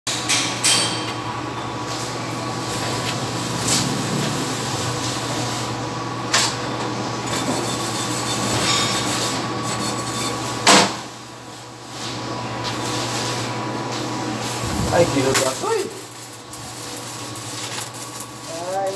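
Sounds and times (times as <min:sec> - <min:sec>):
welding booth hiss and hum: 0:00.1 - 0:18.9.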